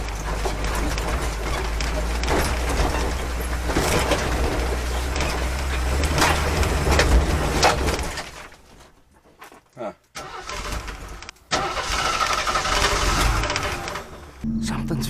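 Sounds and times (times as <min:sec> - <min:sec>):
engine rumbling: 0:00.0 - 0:09.1, 0:10.2 - 0:15.0
vehicle suspension clunking over rocks: 0:00.0 - 0:11.5, 0:12.2 - 0:14.4.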